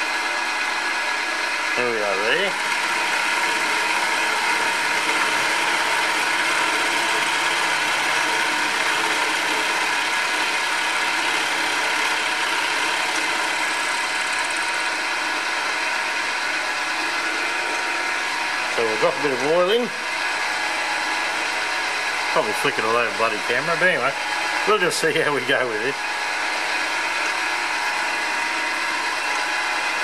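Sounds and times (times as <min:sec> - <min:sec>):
milling machine running: 0:00.0 - 0:30.0.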